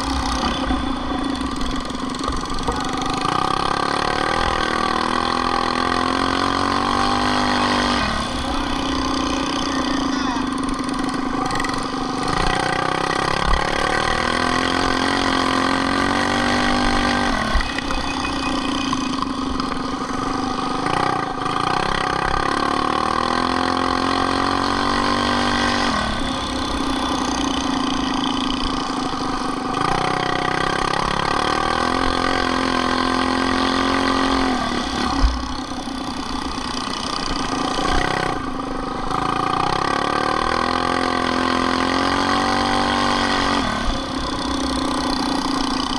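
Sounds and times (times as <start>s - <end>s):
minibike engine revving: 0.0s - 45.9s.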